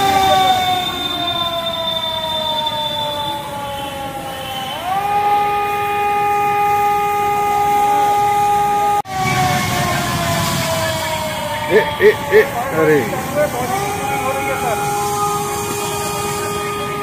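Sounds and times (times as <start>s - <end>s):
siren wailing: 0.0s - 17.0s.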